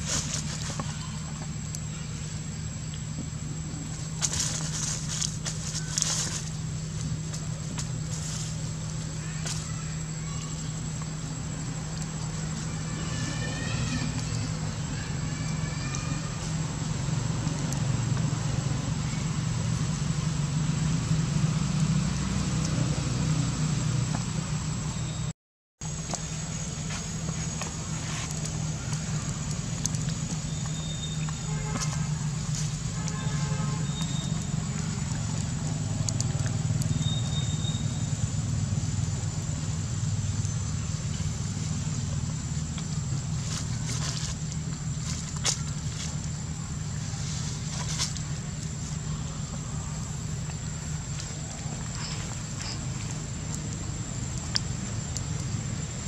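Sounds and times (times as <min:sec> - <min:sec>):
low mechanical hum: 0:00.0 - 0:56.0
low outdoor rumble: 0:00.0 - 0:56.0.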